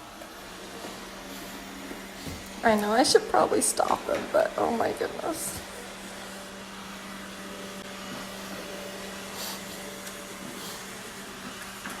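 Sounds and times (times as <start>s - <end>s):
robot vacuum motor hum: 0.0s - 12.0s.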